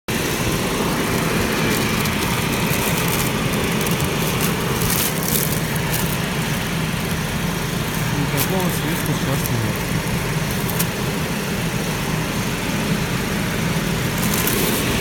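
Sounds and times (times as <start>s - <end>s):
car engine idling: 0.1s - 15.0s
ventilation airflow: 0.1s - 15.0s.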